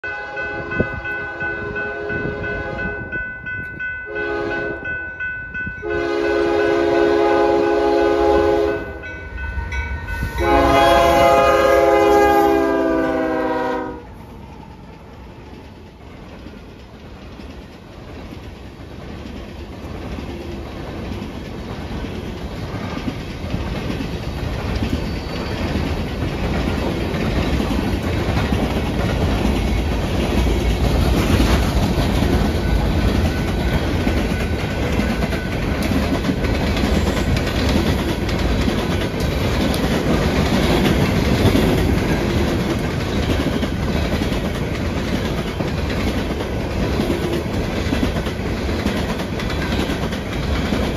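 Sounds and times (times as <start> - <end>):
freight train wheels clacking: 0.1 - 50.9.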